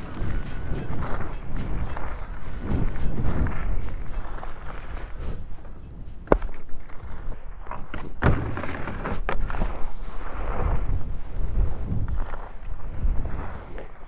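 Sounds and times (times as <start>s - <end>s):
skis scraping over snow: 0.0s - 14.0s
wind on microphone: 0.0s - 14.0s.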